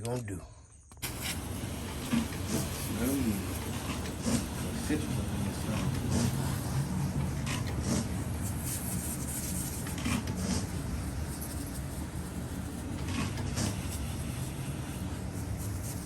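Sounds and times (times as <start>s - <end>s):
low machine hum: 1.0s - 16.0s
spray hissing bursts: 1.0s - 16.0s.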